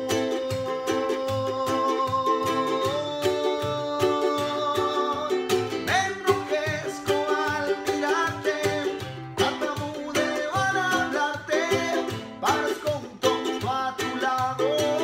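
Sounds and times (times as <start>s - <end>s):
acoustic guitar strumming: 0.0s - 15.0s
man singing: 0.0s - 15.0s
ukulele strumming: 0.0s - 15.0s.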